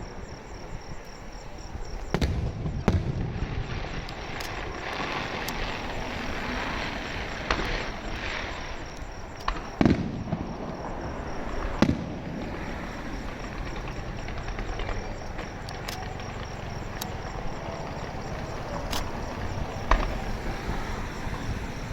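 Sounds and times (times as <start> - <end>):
fireworks bangs: 0.0 - 21.9
fireworks crackling: 0.0 - 21.9.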